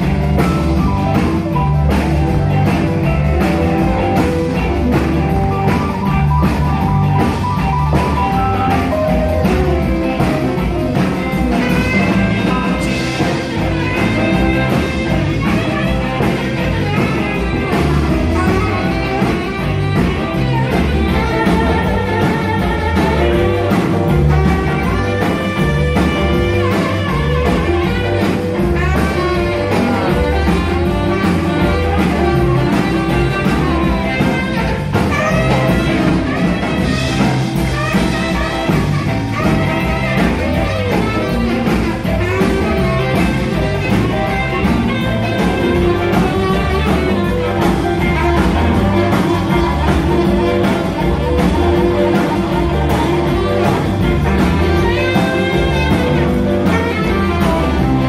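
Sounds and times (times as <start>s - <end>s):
bass guitar: 0.0s - 58.0s
drums: 0.0s - 58.0s
guitar: 0.0s - 58.0s
saxophone: 0.0s - 58.0s.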